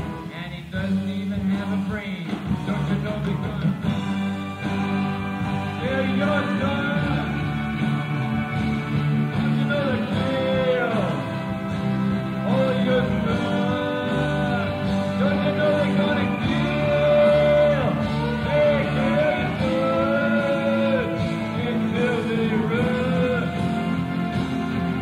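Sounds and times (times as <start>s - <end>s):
cassette hiss: 0.0s - 25.0s
electric guitar bending lead line: 0.0s - 25.0s
rock band playing live: 0.0s - 25.0s.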